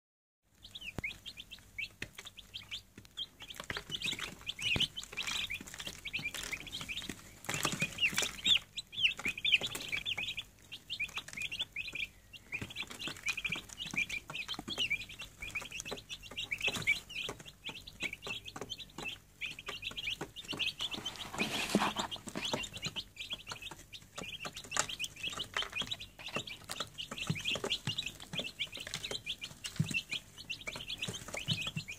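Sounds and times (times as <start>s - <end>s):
chicks peeping: 0.5s - 31.9s.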